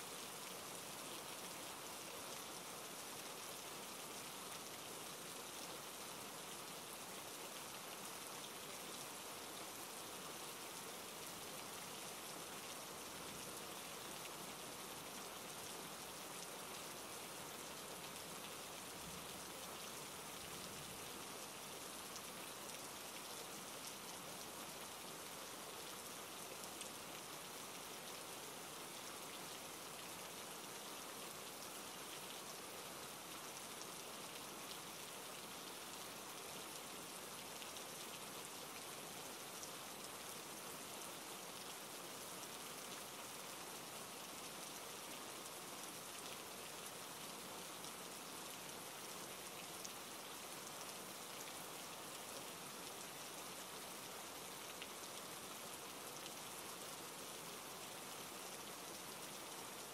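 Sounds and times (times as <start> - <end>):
soft rainfall: 0.0 - 59.9.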